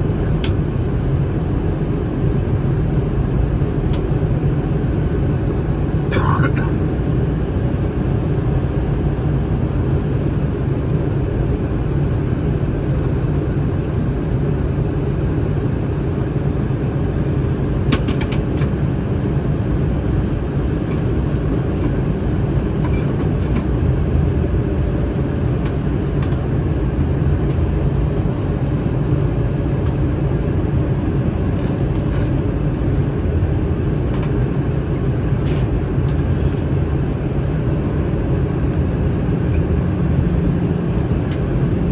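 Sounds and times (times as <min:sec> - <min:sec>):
aircraft cabin engine roar: 0:00.0 - 0:41.9.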